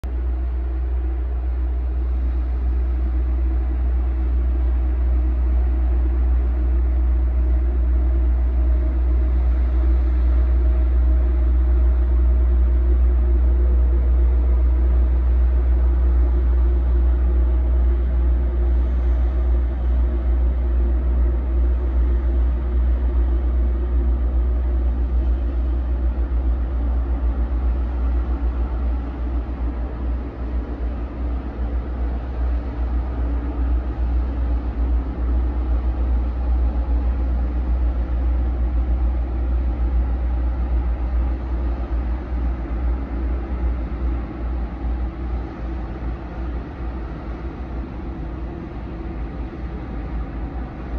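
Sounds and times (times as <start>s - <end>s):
faint hum: 0.0s - 50.9s.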